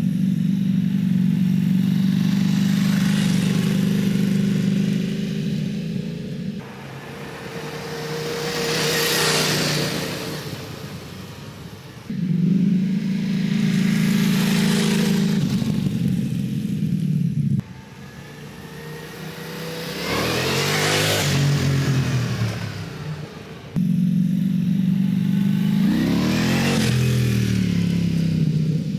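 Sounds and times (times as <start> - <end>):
motorcycle passing by: 0.0 - 28.9
steady motorcycle engine note: 0.0 - 28.9.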